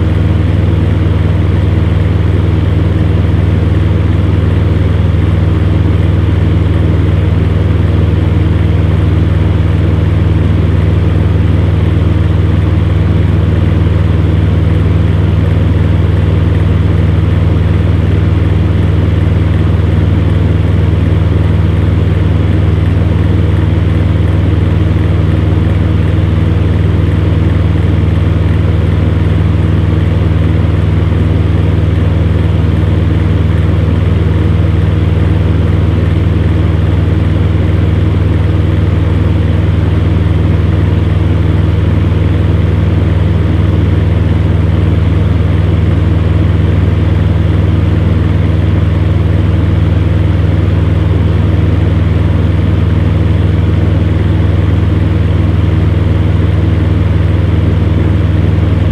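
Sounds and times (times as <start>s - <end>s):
fan air rushing: 0.0s - 58.9s
fan heater motor hum: 0.0s - 58.9s.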